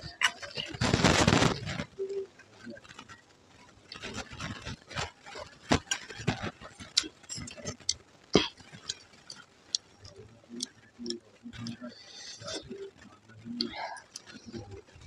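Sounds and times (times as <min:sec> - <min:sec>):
puffed rice crackling: 0:00.0 - 0:15.0.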